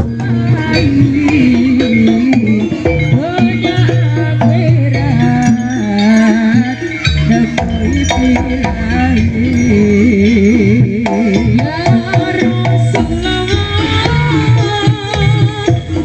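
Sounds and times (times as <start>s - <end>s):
hand drums beating: 0.0s - 16.0s
sustained tones: 0.0s - 16.0s
wavering melody: 0.0s - 16.0s.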